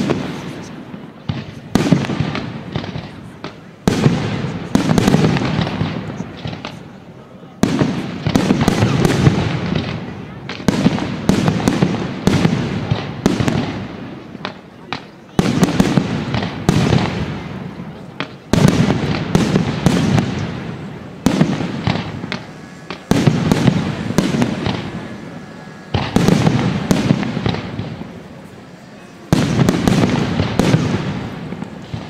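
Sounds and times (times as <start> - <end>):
firework shells bursting with crackles: 0.0 - 32.0.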